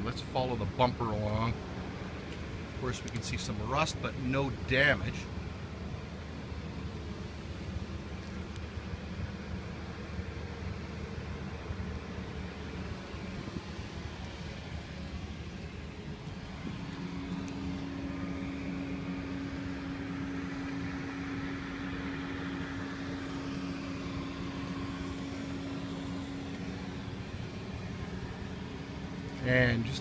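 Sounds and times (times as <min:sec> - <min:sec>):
mid-pitched hum: 0:00.0 - 0:30.0.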